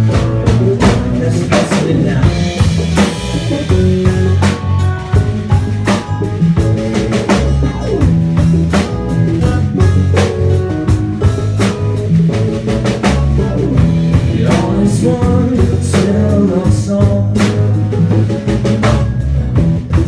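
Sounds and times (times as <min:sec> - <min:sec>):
bass guitar: 0:00.0 - 0:20.0
drum kit beat: 0:00.0 - 0:20.0
electric guitar: 0:00.0 - 0:20.0.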